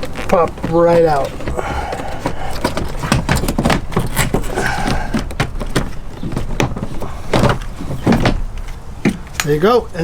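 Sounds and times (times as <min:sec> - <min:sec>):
seat belt parts clicking and scraping: 0:00.0 - 0:09.6.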